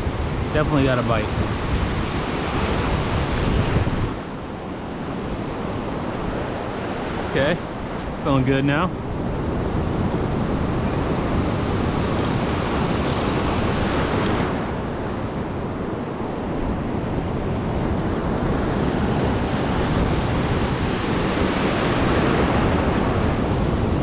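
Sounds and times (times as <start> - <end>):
surf washing onto beach: 0.0 - 24.0.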